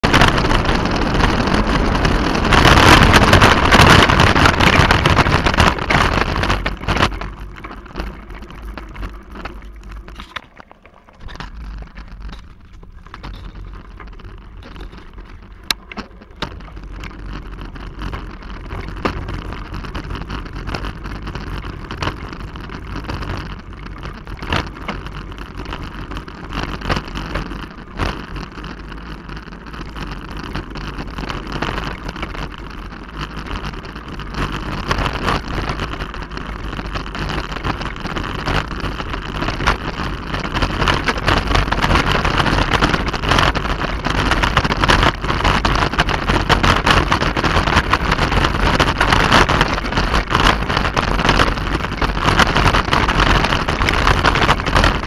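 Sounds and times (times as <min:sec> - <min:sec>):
bike rattling and clicking: 0:00.0 - 0:55.0
wind noise on microphone: 0:00.0 - 0:55.0.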